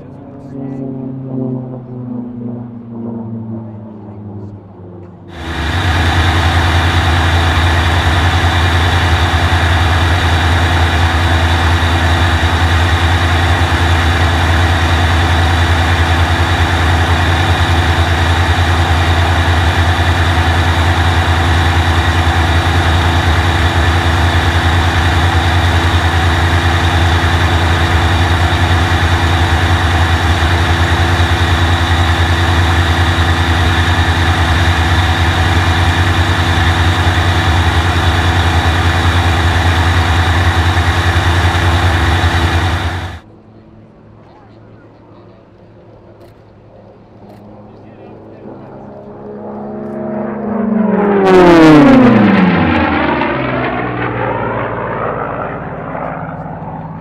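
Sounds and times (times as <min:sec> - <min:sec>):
aircraft engine running in flight: 0:00.0 - 0:57.0.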